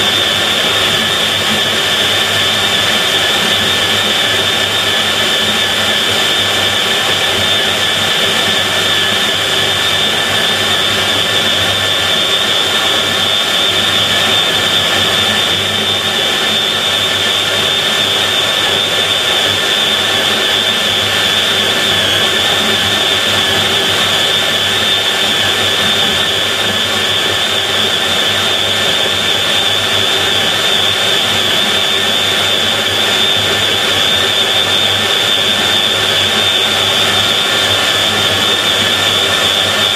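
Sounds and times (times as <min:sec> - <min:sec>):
core drill cutting metal: 0:00.0 - 0:39.9.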